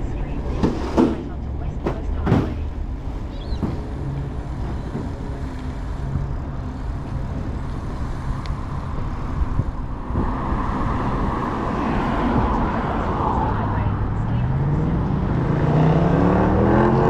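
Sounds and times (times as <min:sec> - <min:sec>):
road and traffic noise: 0:00.0 - 0:17.0
wind rumble on microphone: 0:00.0 - 0:17.0
rushing sound: 0:02.9 - 0:16.9.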